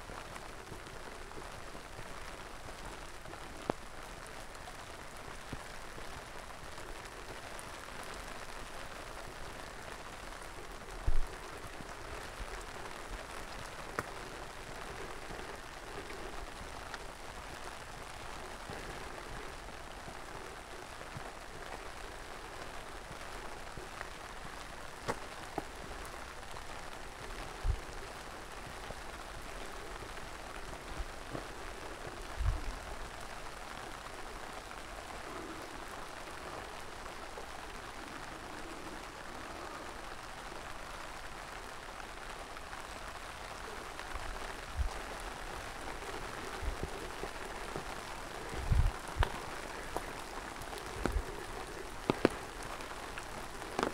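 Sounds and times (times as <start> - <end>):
steady rain patter: 0.0 - 53.9.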